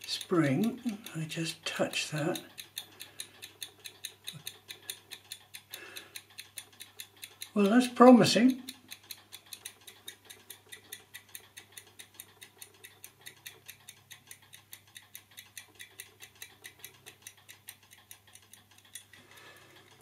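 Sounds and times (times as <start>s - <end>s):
clock escapement ticking: 0.0s - 20.0s.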